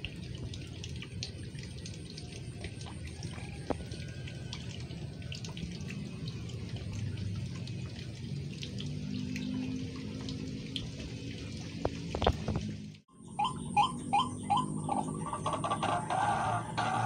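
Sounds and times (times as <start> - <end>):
trickling water: 0.0 - 17.0.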